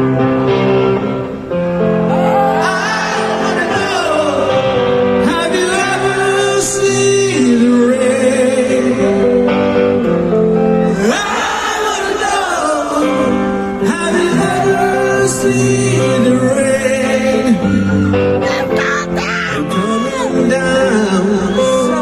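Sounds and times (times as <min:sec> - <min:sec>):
live rock band playing: 0:00.0 - 0:22.0
person singing: 0:02.1 - 0:10.2, 0:10.9 - 0:22.0.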